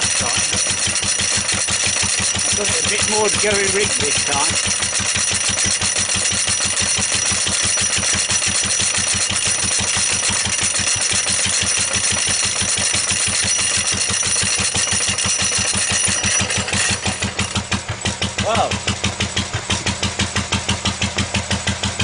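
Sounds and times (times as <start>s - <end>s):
stationary engine running: 0.0s - 22.0s.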